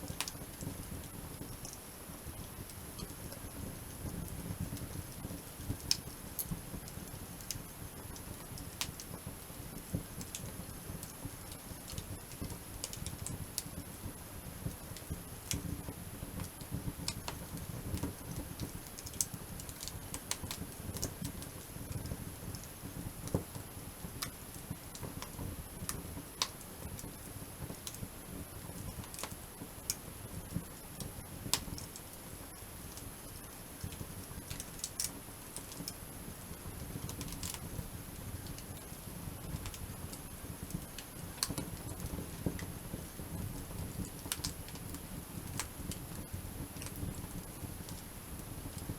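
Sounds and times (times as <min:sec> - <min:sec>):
campfire crackling and popping: 0:00.0 - 0:48.9
low rumble of flame: 0:00.0 - 0:48.9.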